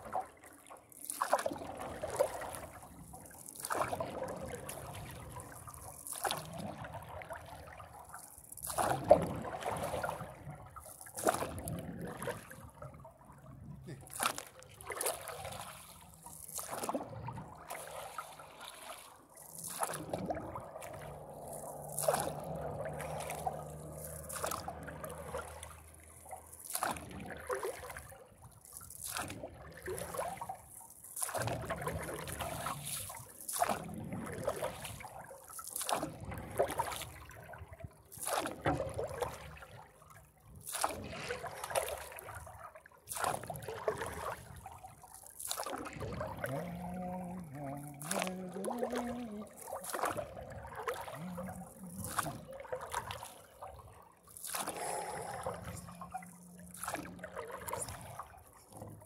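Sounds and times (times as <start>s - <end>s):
paddle splashing in water: 0.0s - 59.0s
water sloshing around board: 0.0s - 59.0s.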